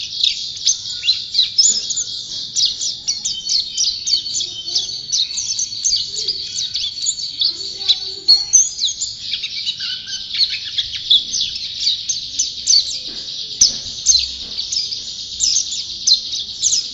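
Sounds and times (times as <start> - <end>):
bird singing chirps and trills: 0.0 - 16.9.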